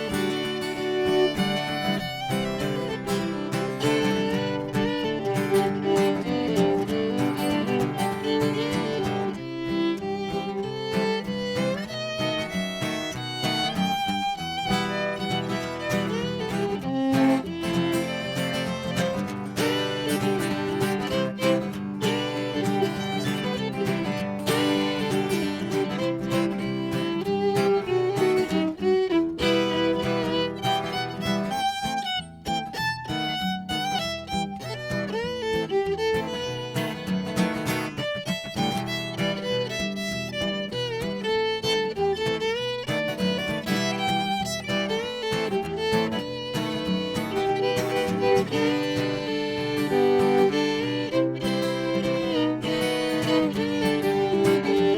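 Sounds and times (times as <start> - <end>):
acoustic guitar strumming: 0.0 - 54.9
fiddle playing melody: 0.0 - 54.9.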